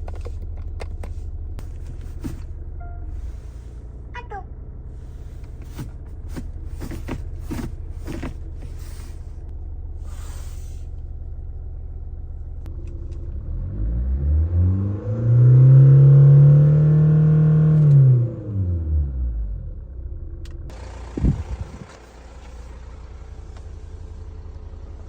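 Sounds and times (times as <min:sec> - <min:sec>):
diesel engine idling and revving: 0:00.0 - 0:25.0.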